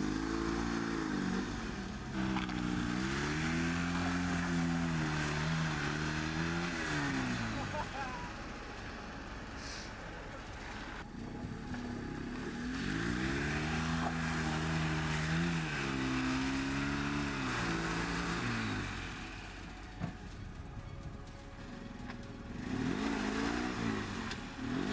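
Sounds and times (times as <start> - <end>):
small car engine revving: 0.0 - 24.9.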